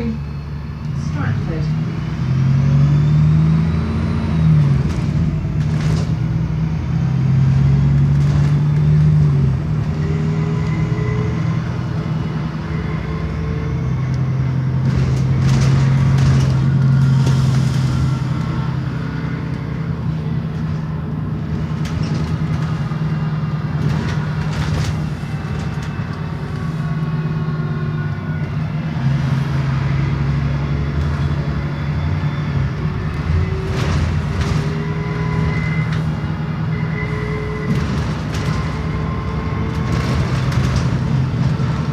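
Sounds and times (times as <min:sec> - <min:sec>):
bus diesel engine hum: 0:00.0 - 0:41.9.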